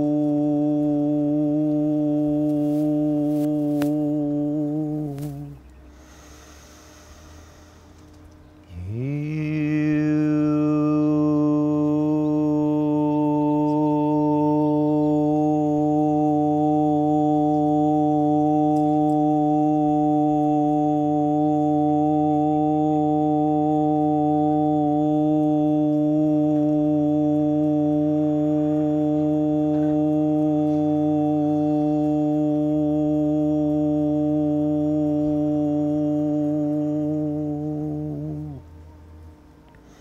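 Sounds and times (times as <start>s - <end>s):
low organ-like drone: 0.0s - 39.8s.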